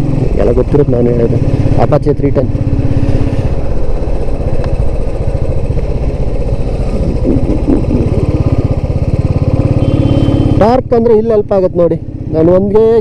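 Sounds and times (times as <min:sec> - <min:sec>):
motorcycle engine under load: 0:00.0 - 0:13.0.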